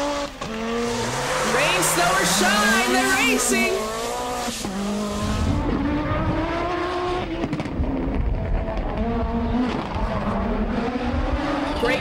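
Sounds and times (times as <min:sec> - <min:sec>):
rally car engines revving: 0:00.0 - 0:12.0.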